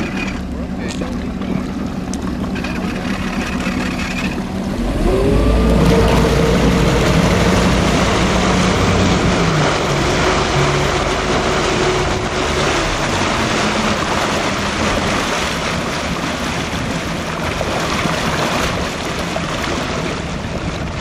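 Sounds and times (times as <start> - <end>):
motorboat engine running: 0.0 - 21.0
rush of water: 0.0 - 21.0.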